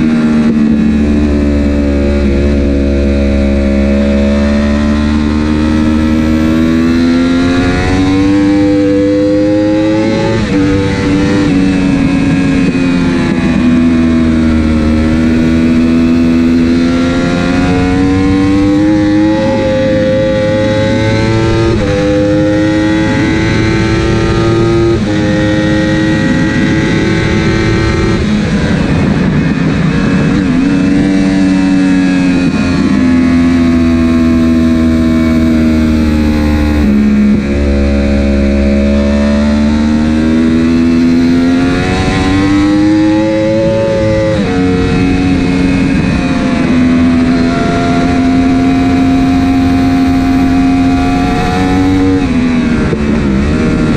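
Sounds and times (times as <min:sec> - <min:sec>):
superbike engine revving through gears: 0:00.0 - 0:53.9.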